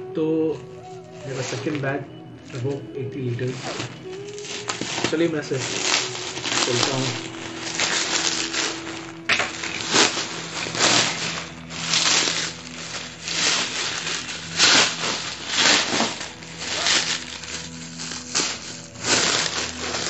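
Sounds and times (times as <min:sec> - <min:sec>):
plastic film crinkling: 0:00.2 - 0:20.0.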